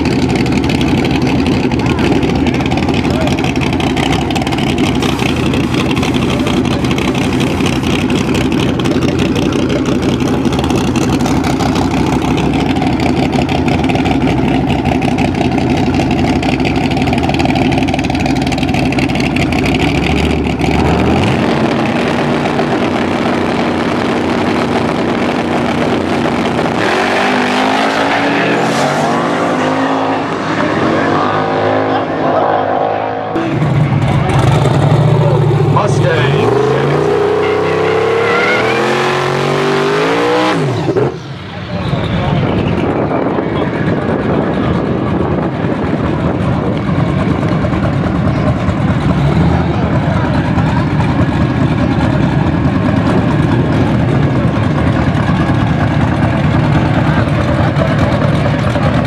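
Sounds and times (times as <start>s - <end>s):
car engines idling choppily: 0.0s - 59.0s
cars accelerating away: 0.0s - 59.0s.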